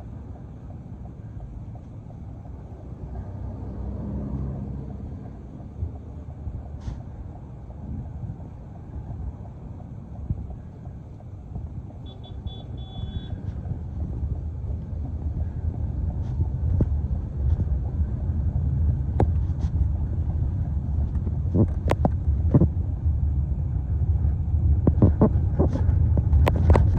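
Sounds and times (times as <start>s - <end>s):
street traffic rumble: 0.0s - 26.9s.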